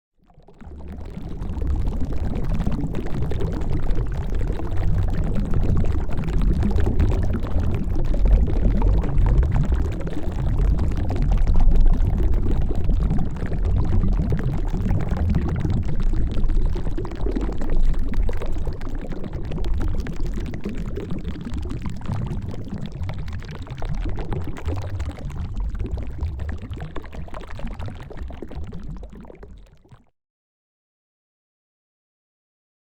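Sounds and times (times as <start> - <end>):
water bubbling: 0.3 - 30.1.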